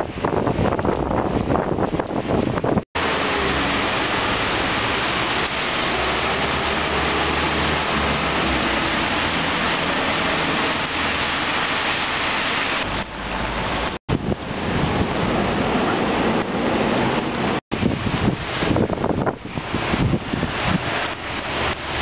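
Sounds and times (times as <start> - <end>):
heavy rain rushing: 0.0 - 22.0
low hum of traffic: 0.0 - 22.0.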